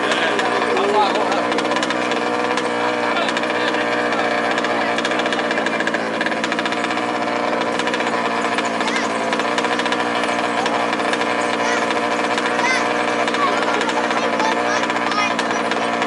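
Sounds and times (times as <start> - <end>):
small two-stroke engines buzzing: 0.0 - 16.0.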